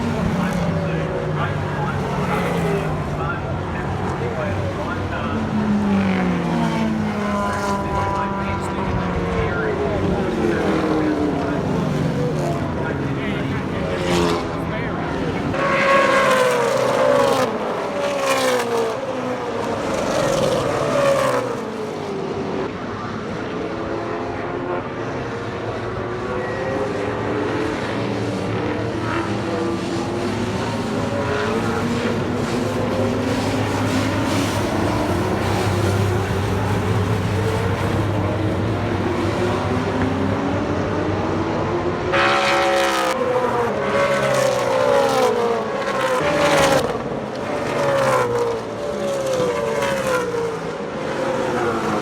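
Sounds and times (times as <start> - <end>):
racing car engines: 0.0 - 52.0.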